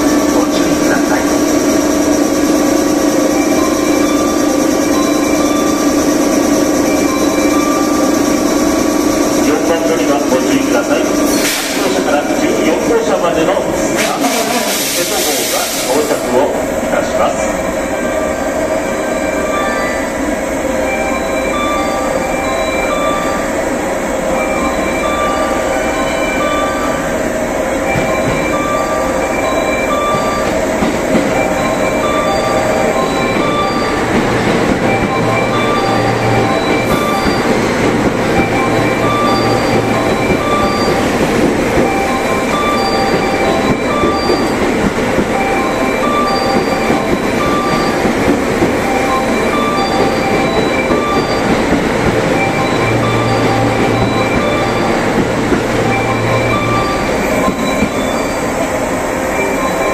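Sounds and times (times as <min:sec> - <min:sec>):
repeating electronic chime: 0:00.0 - 0:14.7, 0:17.2 - 0:59.9
train running noise: 0:00.0 - 0:59.9.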